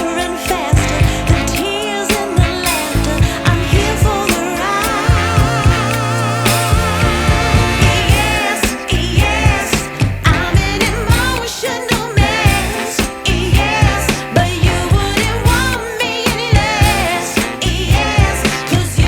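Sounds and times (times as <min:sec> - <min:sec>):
song with vocals over a beat: 0:00.0 - 0:19.0.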